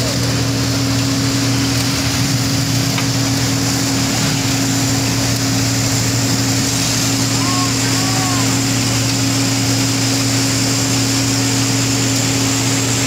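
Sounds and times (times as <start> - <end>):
diesel engine humming: 0.0 - 13.0
drum milling asphalt: 0.0 - 13.0.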